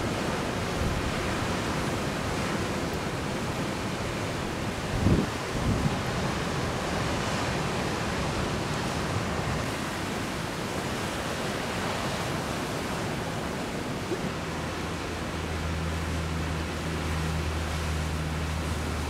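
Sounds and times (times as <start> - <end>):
ocean surf and wind hiss: 0.0 - 19.0.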